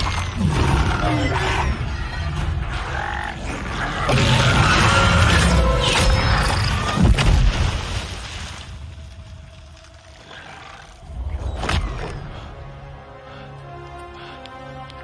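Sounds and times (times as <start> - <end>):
dramatic orchestral score: 0.0 - 7.5, 8.7 - 15.0.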